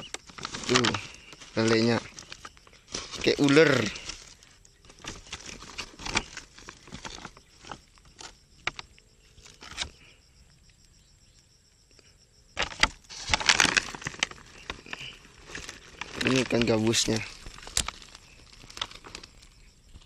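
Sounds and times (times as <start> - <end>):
plastic bag rustling: 0.0 - 8.8, 12.6 - 20.0.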